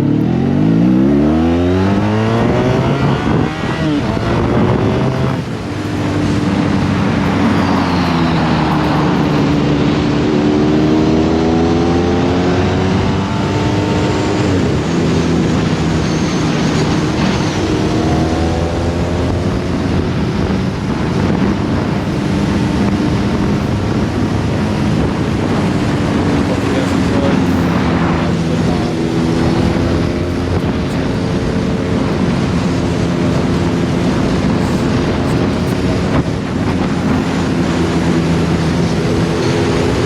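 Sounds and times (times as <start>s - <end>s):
motorcycle engine accelerating: 0.0s - 40.0s
wind rush: 0.0s - 40.0s.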